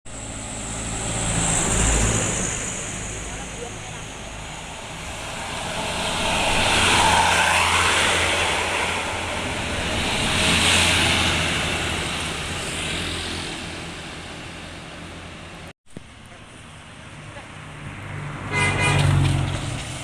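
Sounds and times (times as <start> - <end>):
vehicles passing by: 0.1 - 20.0.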